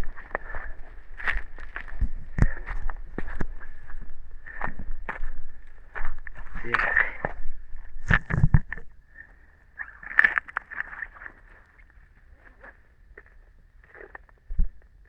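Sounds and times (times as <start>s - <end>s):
clicks and rustles: 0.0s - 9.0s, 9.8s - 15.0s.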